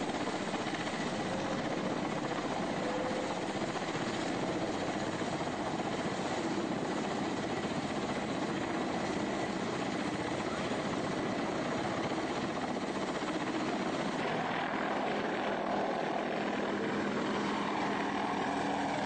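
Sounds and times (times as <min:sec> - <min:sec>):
helicopter rotors and engines: 0:00.0 - 0:19.0.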